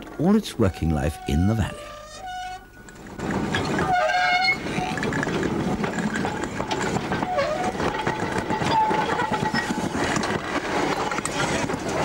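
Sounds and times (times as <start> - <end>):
steam locomotive working: 0.0 - 12.0.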